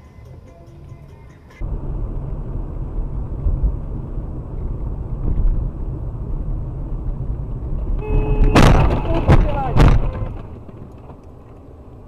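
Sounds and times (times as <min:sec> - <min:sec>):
car driving rumble: 0:01.6 - 0:12.0.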